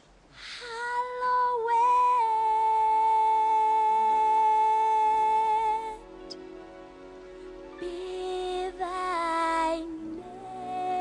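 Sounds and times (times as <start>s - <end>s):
high voice holding a long note: 0.6s - 6.3s, 7.7s - 11.0s.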